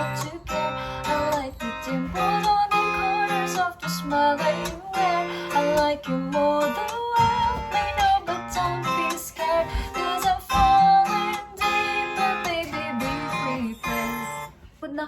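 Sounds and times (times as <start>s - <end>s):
guitar music: 0.0s - 14.6s.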